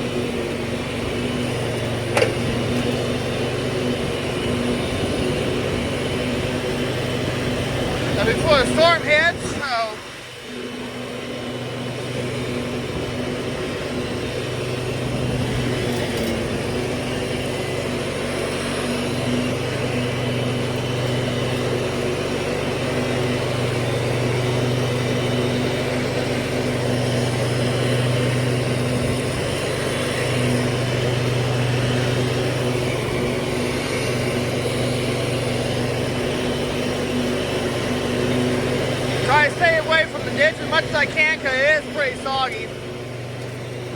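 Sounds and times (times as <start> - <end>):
riding lawnmower engine: 0.0 - 43.9.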